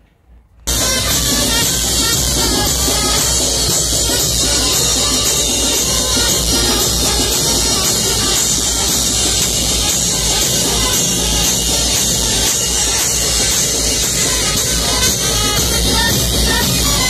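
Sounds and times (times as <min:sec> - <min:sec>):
brass band playing: 0:00.7 - 0:17.0
crash cymbals: 0:00.7 - 0:17.0
trumpets: 0:00.7 - 0:17.0.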